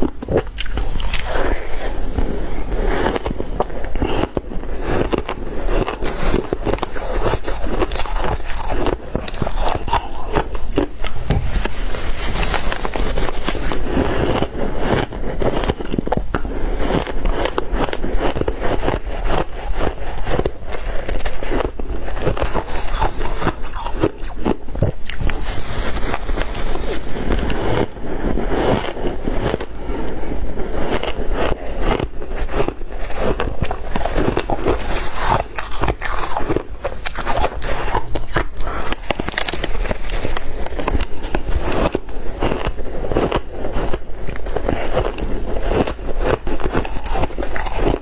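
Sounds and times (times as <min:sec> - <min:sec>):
ice crunching being chewed: 0:00.0 - 0:48.0.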